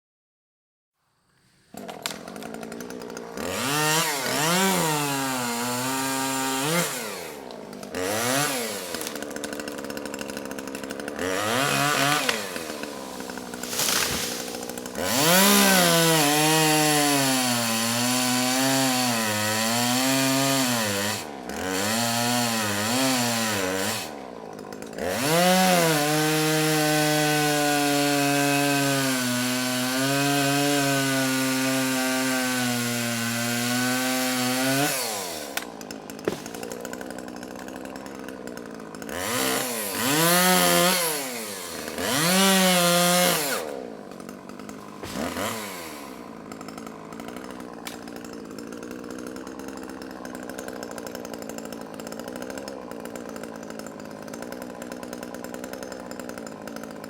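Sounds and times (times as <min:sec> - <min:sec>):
chainsaw cutting wood: 0:01.3 - 0:57.0.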